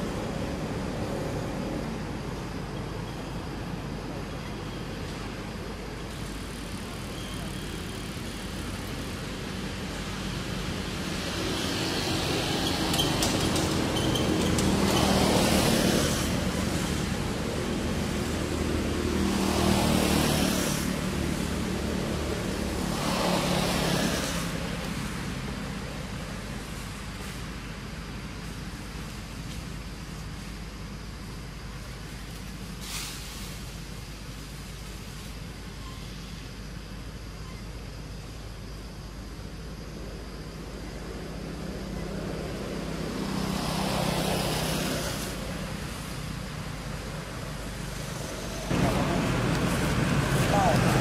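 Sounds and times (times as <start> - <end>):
traffic rumble: 0.0 - 51.0.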